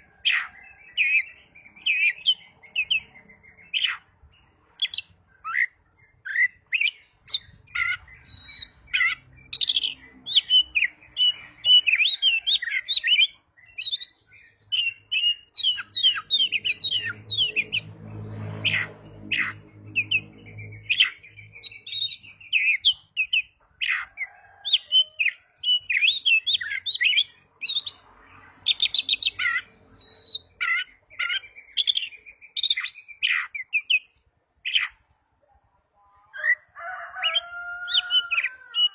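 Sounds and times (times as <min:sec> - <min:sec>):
bird singing whistles and chirps: 0:00.3 - 0:04.0, 0:04.8 - 0:17.9, 0:18.7 - 0:28.0, 0:28.6 - 0:35.0.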